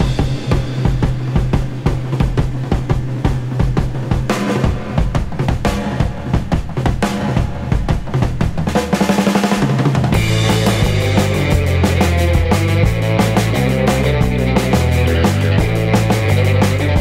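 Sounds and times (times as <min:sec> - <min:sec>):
music with drum beat and bass: 0:00.0 - 0:17.0.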